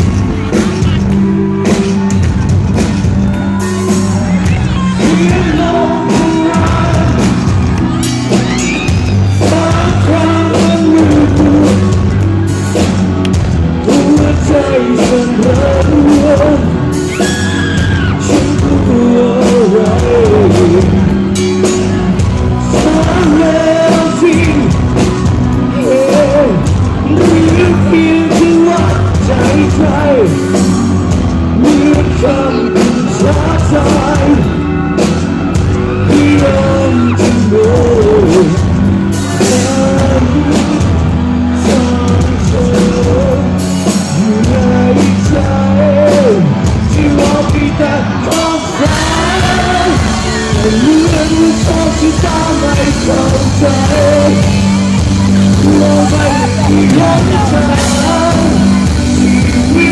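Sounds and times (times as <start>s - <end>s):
person singing: 0.0s - 59.9s
rock band playing live: 0.0s - 59.9s.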